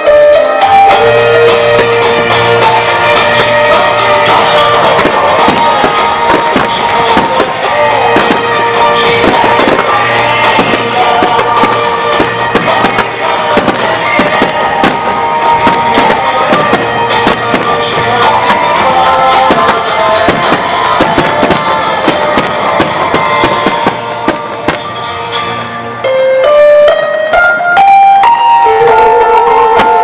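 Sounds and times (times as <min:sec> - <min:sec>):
firework bursts and crackles: 0:00.0 - 0:25.8
music playing: 0:00.0 - 0:30.0.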